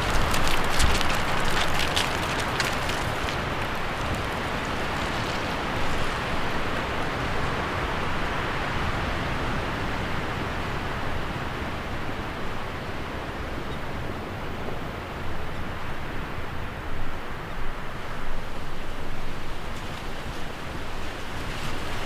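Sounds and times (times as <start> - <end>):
wind blowing through leaves: 0.0 - 22.0.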